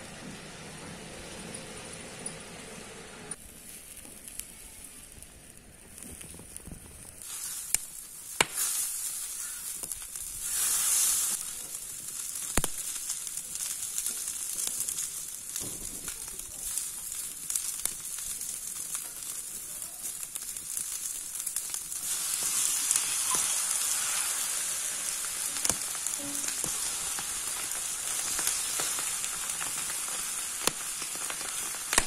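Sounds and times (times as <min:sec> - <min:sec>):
meat sizzling on hot griddle: 0:03.4 - 0:32.0.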